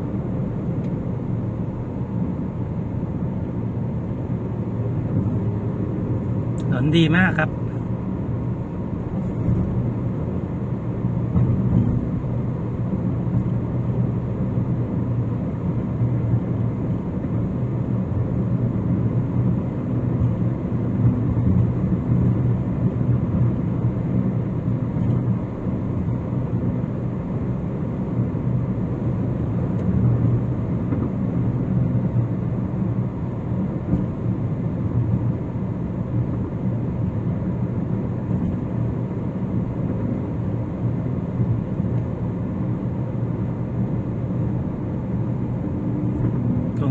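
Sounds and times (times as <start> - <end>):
car tyres and engine rumbling: 0.0 - 46.9.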